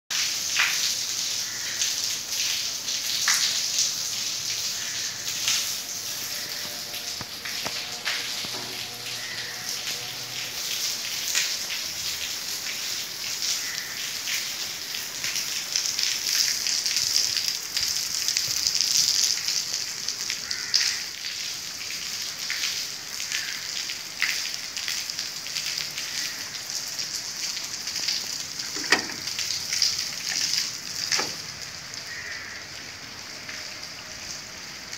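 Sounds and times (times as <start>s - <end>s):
heavy rain on pavement and puddles: 0.1s - 34.9s.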